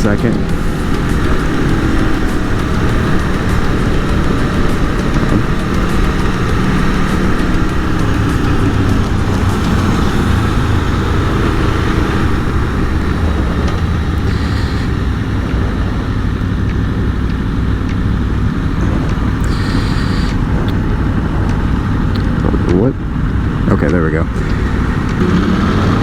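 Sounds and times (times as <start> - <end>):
motorcycle engine at low revs: 0.0 - 26.0
wind and road noise: 0.0 - 26.0.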